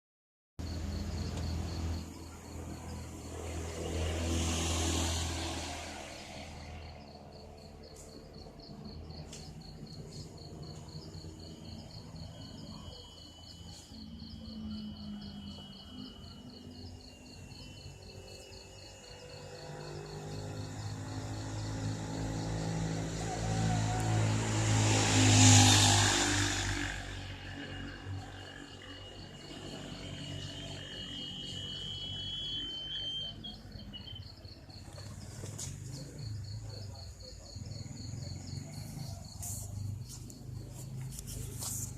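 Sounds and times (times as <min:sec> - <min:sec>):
insect chirping: 0:00.6 - 0:41.9.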